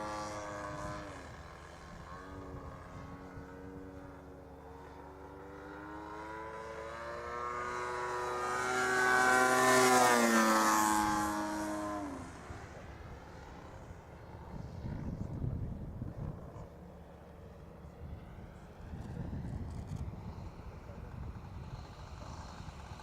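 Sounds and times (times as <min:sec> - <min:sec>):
model plane engine flying past: 0:00.0 - 0:23.0.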